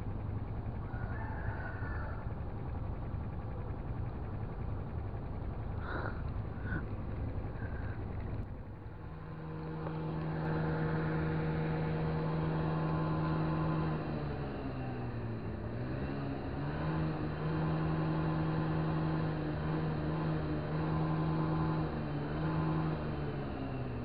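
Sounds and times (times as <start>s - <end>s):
constant low rumble: 0.0s - 22.4s
engine humming: 0.0s - 24.0s.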